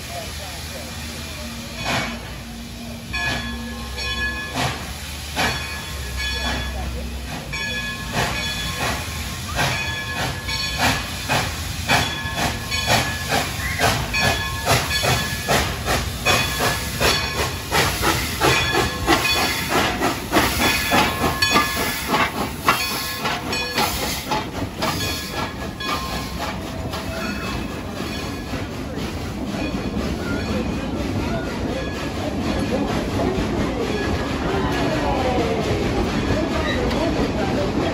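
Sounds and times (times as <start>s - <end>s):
steam hissing: 0.0s - 37.9s
steam locomotive chuffing: 0.0s - 37.9s.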